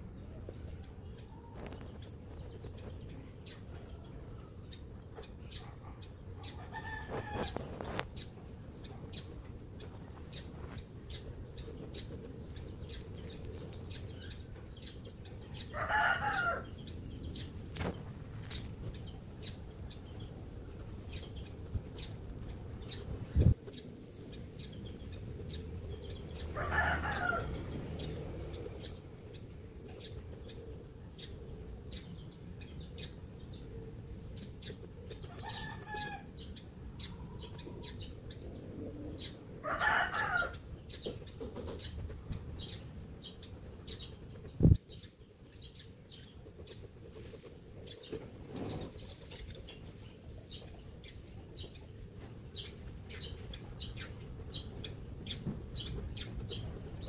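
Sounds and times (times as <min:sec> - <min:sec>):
bird calls: 0:00.0 - 0:57.0.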